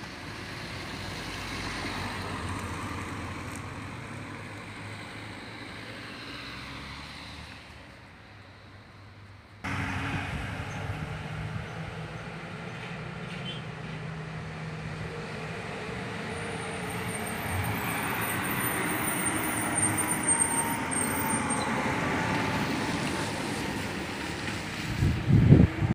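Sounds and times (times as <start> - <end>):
bus diesel engine passing: 0.0 - 25.9.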